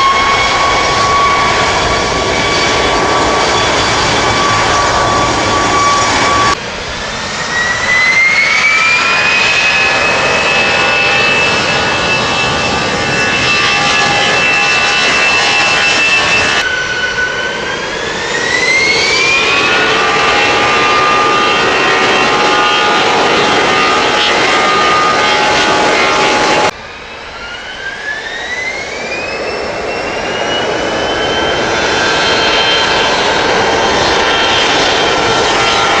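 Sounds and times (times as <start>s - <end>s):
jet engines spooling up: 0.0s - 36.0s.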